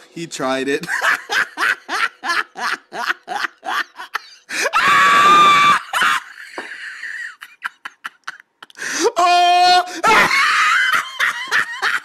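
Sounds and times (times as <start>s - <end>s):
person laughing in bursts: 0.8s - 8.9s, 9.9s - 12.0s.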